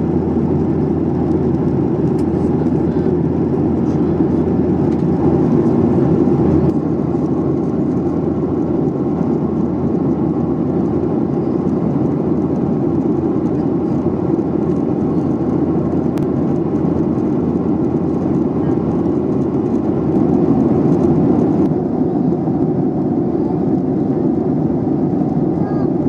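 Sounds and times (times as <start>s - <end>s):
airliner cabin hum: 0.0s - 26.0s.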